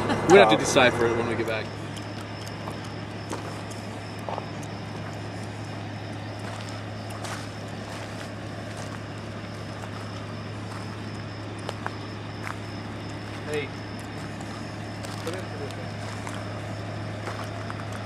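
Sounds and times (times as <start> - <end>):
faint high thin whine: 0.0 - 18.0
low mechanical hum: 0.0 - 18.0.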